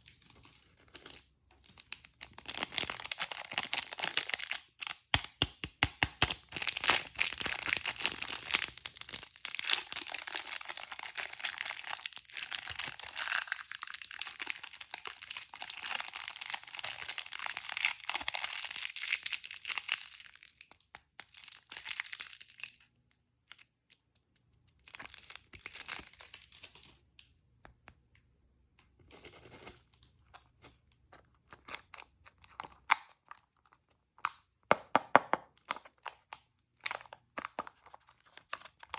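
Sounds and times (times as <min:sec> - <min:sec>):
candy wrapper tearing and crinkling: 0:00.0 - 0:27.0, 0:29.1 - 0:38.9.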